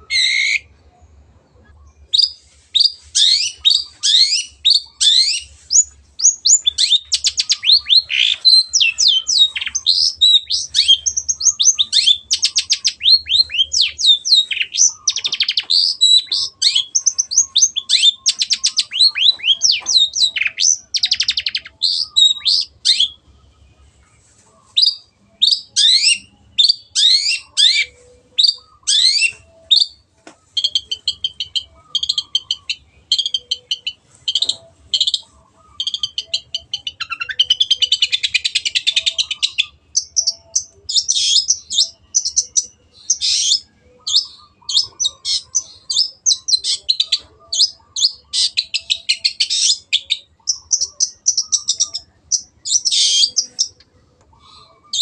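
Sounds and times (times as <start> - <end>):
bird singing chirps and trills: 0.0 - 23.8, 24.7 - 55.0.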